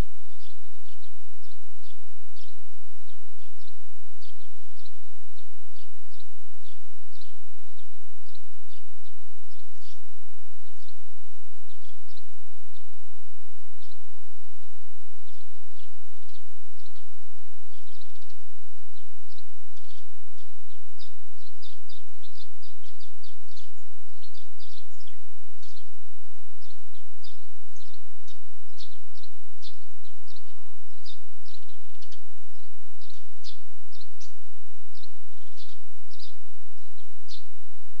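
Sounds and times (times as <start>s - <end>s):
background hiss: 0.0s - 38.0s
low hum: 0.0s - 38.0s
small birds chirping: 0.0s - 38.0s.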